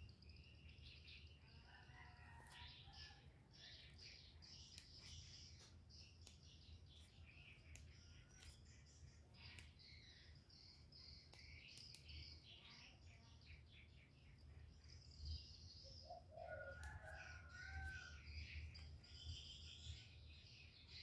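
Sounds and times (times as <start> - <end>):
birds chirping and warbling: 0.0 - 21.0.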